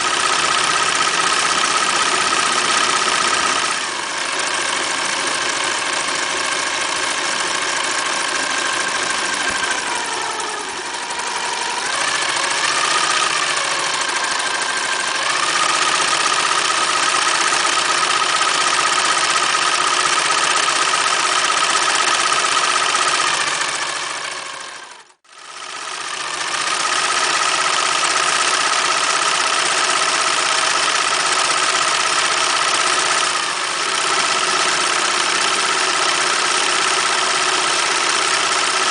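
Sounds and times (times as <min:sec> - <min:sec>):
sewing machine motor whine: 0:00.0 - 0:38.9.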